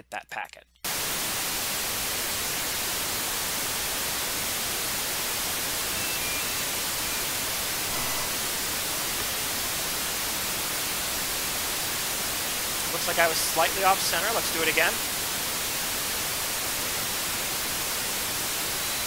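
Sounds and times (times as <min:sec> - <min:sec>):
radio static hiss: 0:00.9 - 0:19.0.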